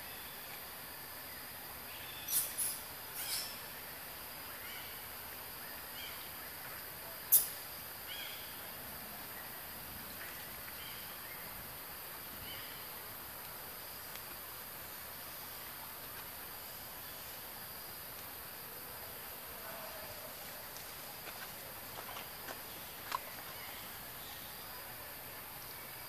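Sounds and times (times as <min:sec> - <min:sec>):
insect hiss: 0:00.0 - 0:26.0.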